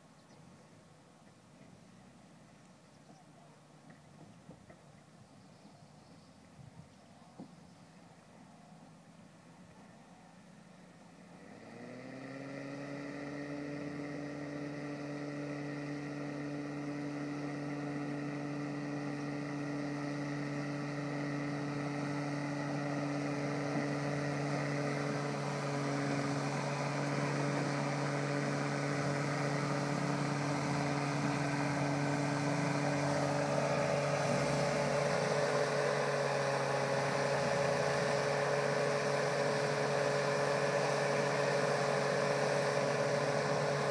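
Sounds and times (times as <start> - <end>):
van engine crawling: 0.0 - 43.9.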